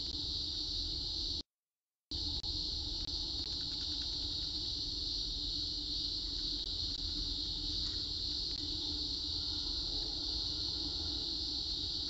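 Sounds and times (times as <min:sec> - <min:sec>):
cicadas droning: 0:00.0 - 0:01.4, 0:02.1 - 0:12.0.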